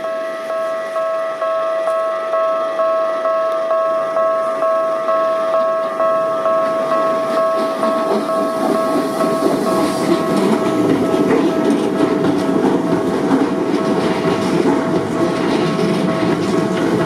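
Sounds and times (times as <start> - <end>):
approaching train rumble: 0.0 - 17.0
level-crossing warning bell: 0.0 - 17.0.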